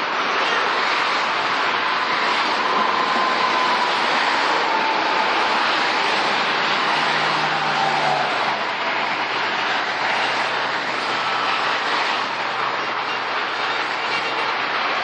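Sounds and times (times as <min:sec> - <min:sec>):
freeway traffic tyre noise: 0:00.0 - 0:15.0
passing vehicle whine: 0:00.2 - 0:15.0.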